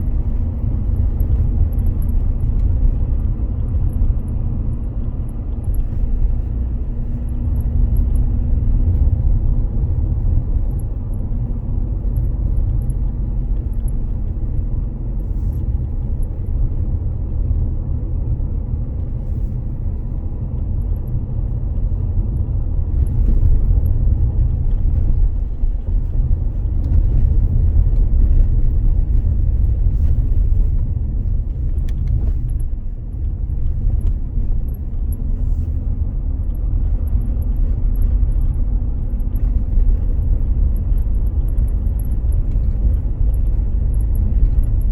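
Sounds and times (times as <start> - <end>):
road and engine rumble: 0.0 - 44.9.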